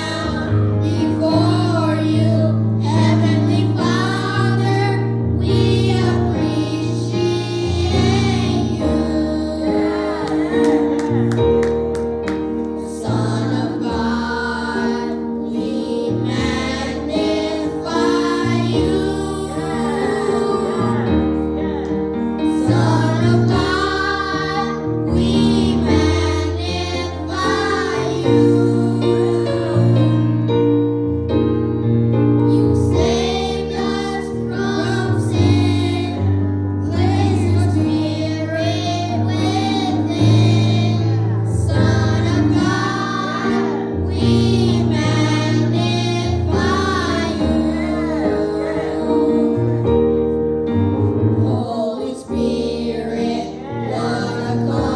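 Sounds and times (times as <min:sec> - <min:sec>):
youth choir singing gospel: 0:00.0 - 0:30.8, 0:32.2 - 0:54.9
held keyboard bass notes: 0:00.0 - 0:54.9.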